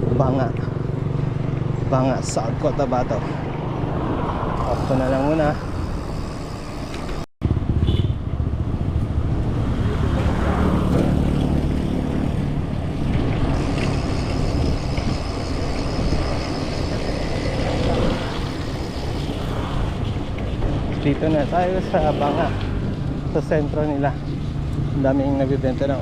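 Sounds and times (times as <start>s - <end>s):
wind buffeting microphone: 0.0s - 25.0s
road and vehicle noise: 0.0s - 26.0s.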